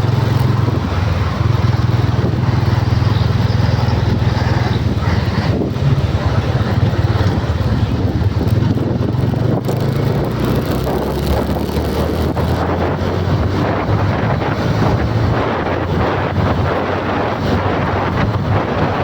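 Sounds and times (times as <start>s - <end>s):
engine rumbling: 0.0s - 19.0s
wind noise on microphone: 0.0s - 19.0s.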